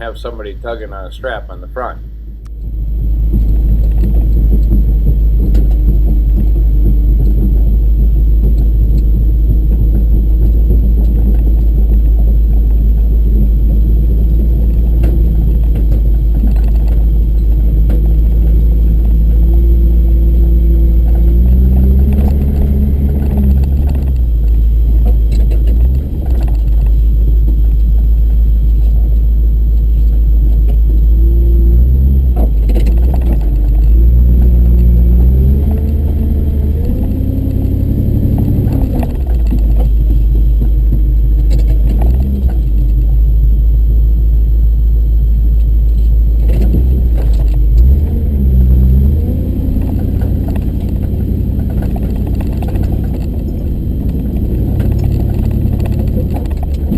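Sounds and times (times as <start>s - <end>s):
truck engine rumbling and revving: 0.0s - 56.9s.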